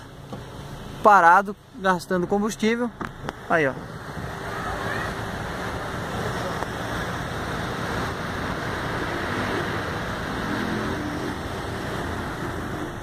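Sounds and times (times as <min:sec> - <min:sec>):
cars idling: 0:00.0 - 0:13.0
traffic rushing noise: 0:00.0 - 0:13.0.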